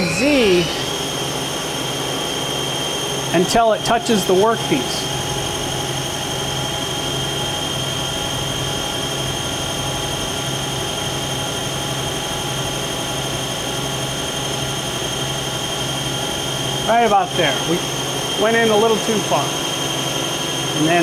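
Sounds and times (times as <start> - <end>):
high machine whine: 0.0 - 21.0
lathe spindle humming: 0.0 - 21.0.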